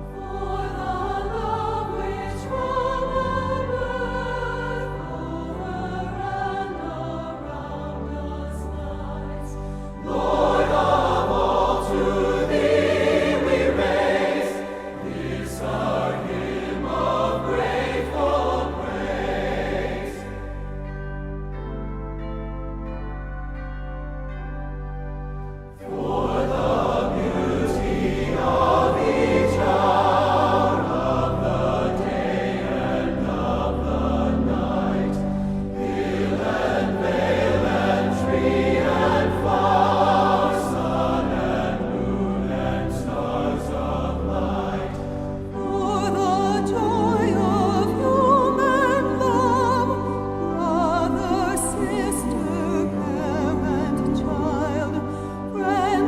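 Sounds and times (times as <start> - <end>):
choir singing a hymn: 0.0 - 22.2, 25.7 - 56.0
sustained accompaniment: 0.0 - 56.0.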